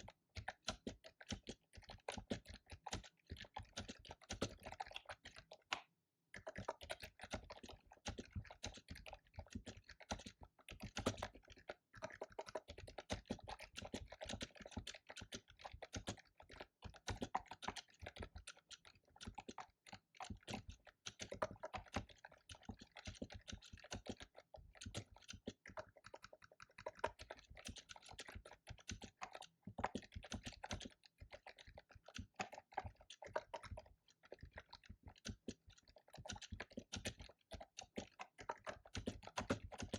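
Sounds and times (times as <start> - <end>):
typing on keyboard: 0.0 - 39.9.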